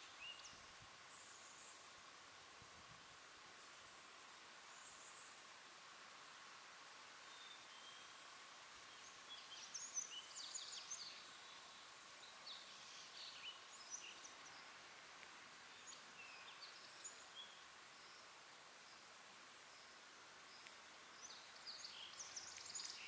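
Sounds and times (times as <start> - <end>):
small songbirds chirping: 0.0 - 2.5, 3.1 - 23.0
low outdoor hiss: 0.0 - 23.0.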